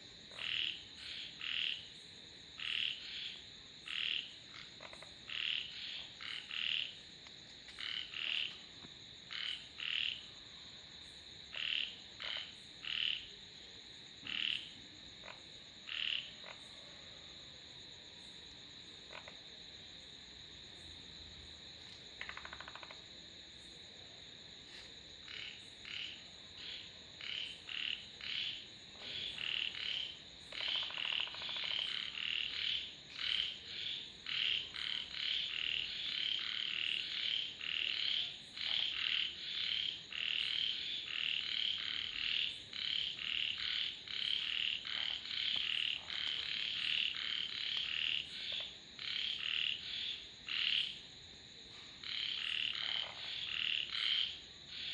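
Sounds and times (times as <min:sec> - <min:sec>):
frogs calling: 0:00.3 - 0:01.9, 0:02.6 - 0:10.4, 0:11.5 - 0:13.4, 0:14.2 - 0:16.8, 0:19.1 - 0:19.4, 0:21.9 - 0:23.1, 0:24.7 - 0:51.1, 0:52.0 - 0:54.9.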